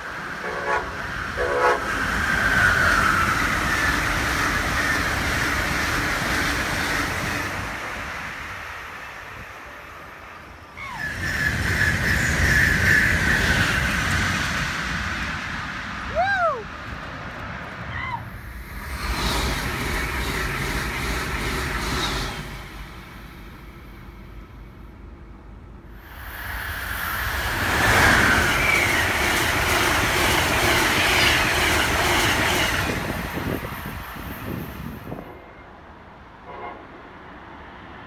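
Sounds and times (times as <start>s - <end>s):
train wheels rushing on rails: 0.0s - 36.5s.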